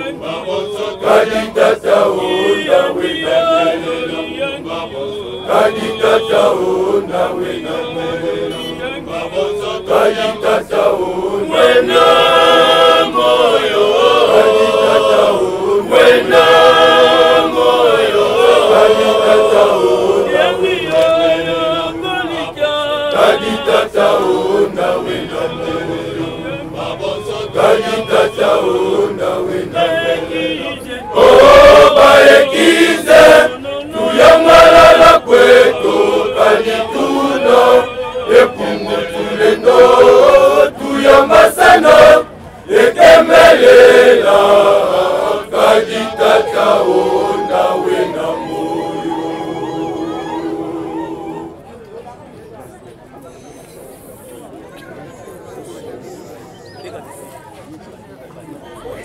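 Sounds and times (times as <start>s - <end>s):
men singing chant in unison: 0.0s - 51.5s.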